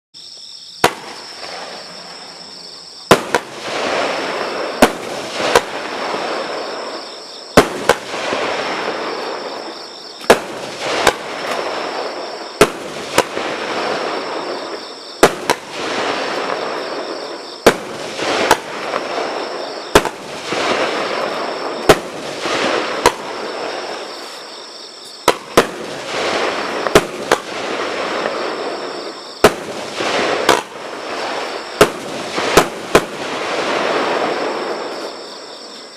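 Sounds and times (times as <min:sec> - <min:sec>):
firework bangs: 0:00.8 - 0:35.5
firework stars hissing: 0:00.8 - 0:35.8.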